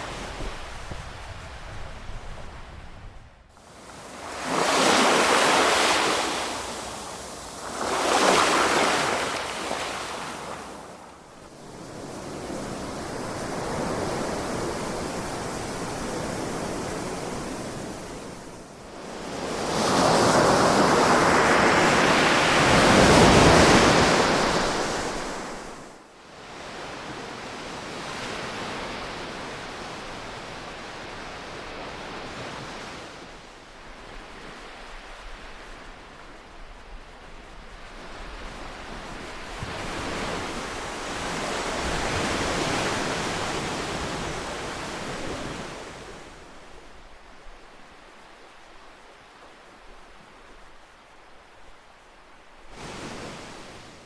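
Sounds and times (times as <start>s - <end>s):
ocean waves breaking on shore: 0.0s - 2.8s, 3.5s - 50.3s, 52.6s - 54.0s.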